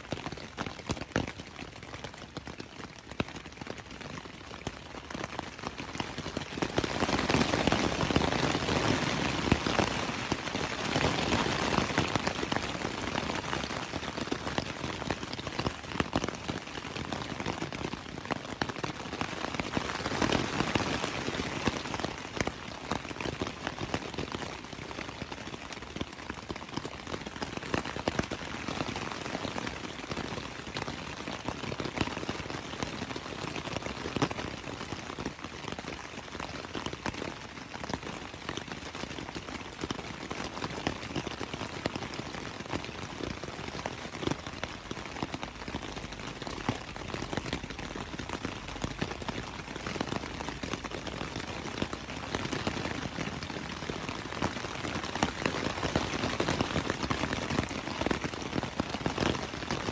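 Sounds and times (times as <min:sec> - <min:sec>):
rain drumming on tent fabric: 0:00.0 - 0:59.9.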